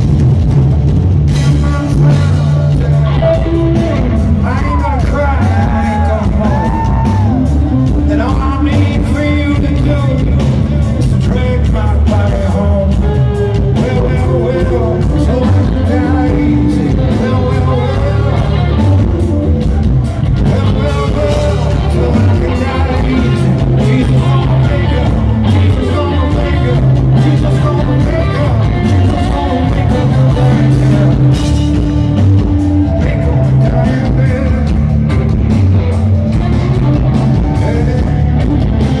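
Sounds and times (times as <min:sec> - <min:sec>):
drums: 0:00.0 - 0:39.0
electric guitar: 0:00.0 - 0:39.0
live rock band playing: 0:00.0 - 0:39.0
man singing lead vocal: 0:01.2 - 0:39.0.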